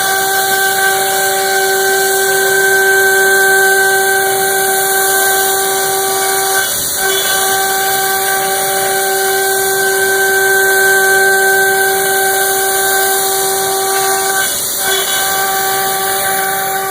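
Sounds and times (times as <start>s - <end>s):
router spindle milling metal: 0.0s - 16.9s.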